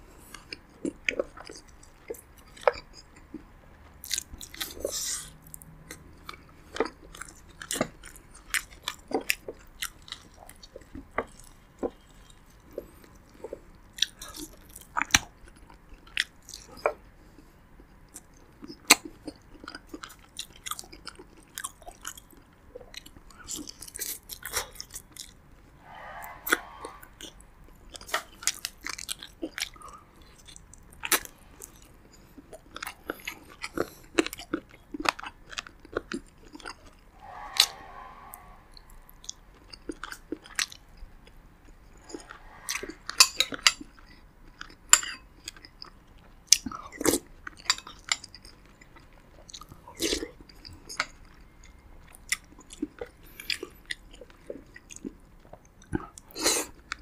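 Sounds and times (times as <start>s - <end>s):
chewing and biting: 0.2s - 17.0s, 17.8s - 25.4s, 27.2s - 37.0s, 39.2s - 57.0s.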